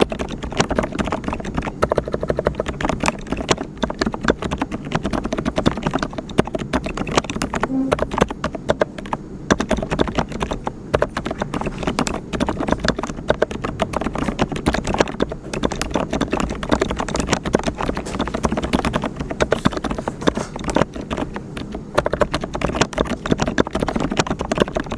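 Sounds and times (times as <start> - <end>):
typing on mechanical keyboard: 0.0 - 24.9.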